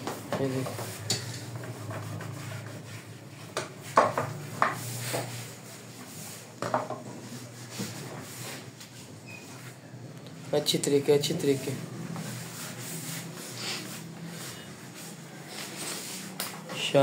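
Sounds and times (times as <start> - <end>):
cloth rubbing and wiping wood: 0.0 - 9.8, 11.6 - 16.4.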